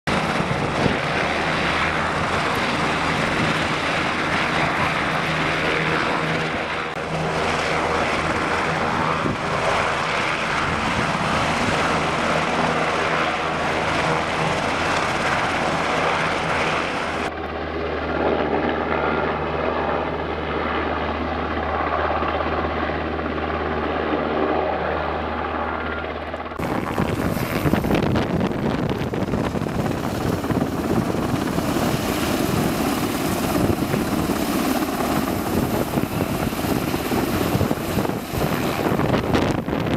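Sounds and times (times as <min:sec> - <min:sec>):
helicopter rotor and turbines: 0:00.0 - 0:39.9.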